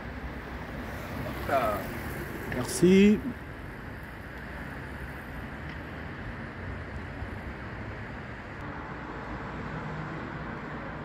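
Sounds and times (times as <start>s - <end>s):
distant city traffic rumble: 0.0s - 11.0s.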